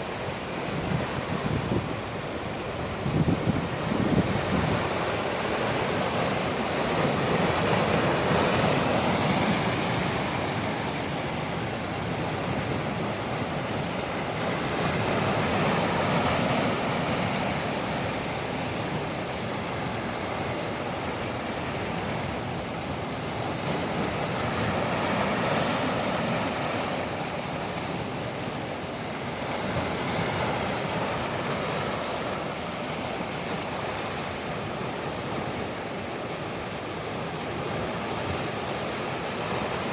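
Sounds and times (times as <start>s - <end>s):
wind blowing: 0.0s - 33.8s
ocean waves breaking on shore: 0.0s - 39.9s.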